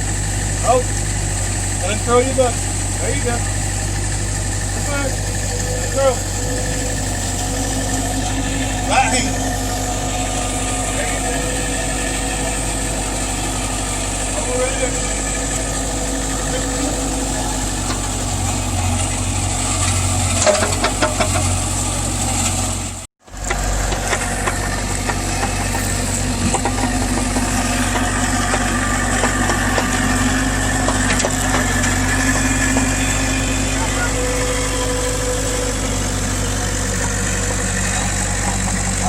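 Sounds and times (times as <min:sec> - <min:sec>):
diesel engine running: 0:00.0 - 0:39.0
metal clanks: 0:01.6 - 0:22.7, 0:23.3 - 0:39.0.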